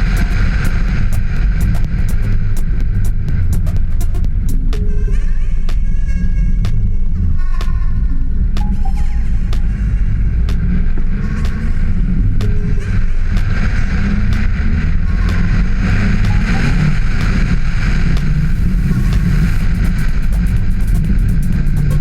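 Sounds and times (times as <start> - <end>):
rally car engine running: 0.0 - 22.0.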